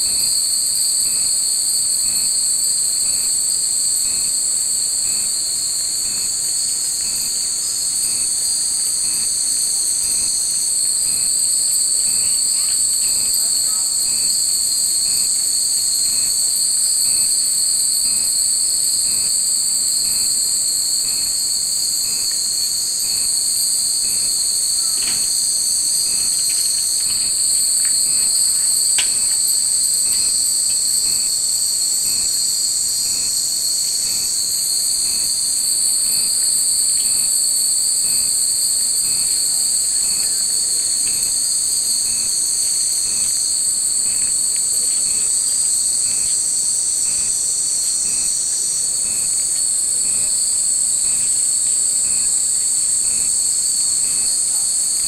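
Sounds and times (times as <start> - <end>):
cicadas shrilling: 0.0 - 55.0.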